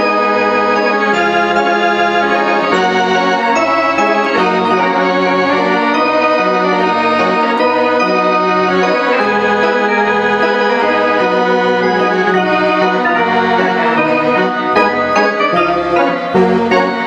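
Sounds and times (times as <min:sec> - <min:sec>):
organ bass line: 0:00.0 - 0:17.0
organ chords: 0:00.0 - 0:17.0.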